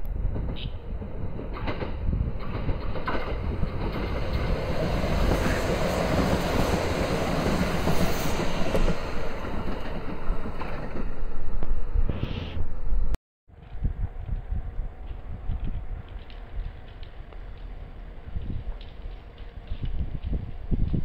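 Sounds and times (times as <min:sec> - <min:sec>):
train wheels rumbling on rails: 0:00.0 - 0:12.8, 0:13.6 - 0:21.0.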